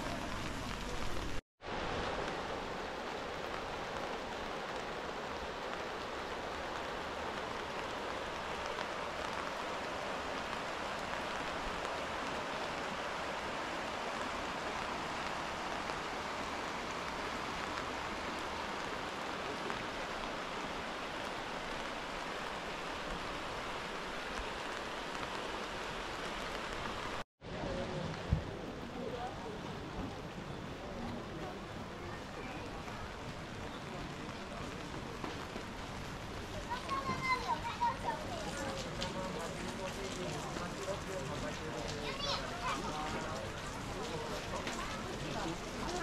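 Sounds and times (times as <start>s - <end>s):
river rushing over gravel: 0.0s - 27.2s, 31.1s - 46.0s
falling rain: 0.0s - 46.0s.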